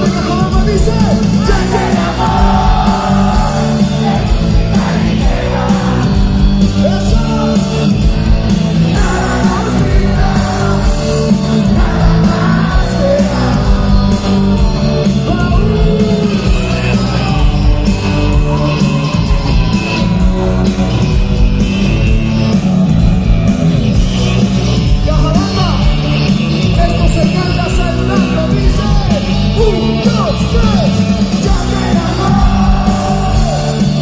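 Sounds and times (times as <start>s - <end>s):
amplified live band with singer: 0.0s - 34.0s
heavy bass line: 0.0s - 34.0s.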